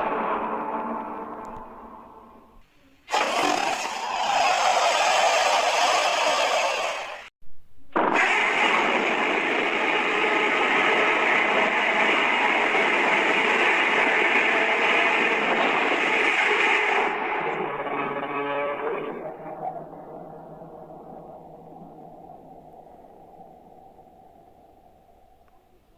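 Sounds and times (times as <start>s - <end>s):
harsh rushing blast: 0.0s - 25.9s.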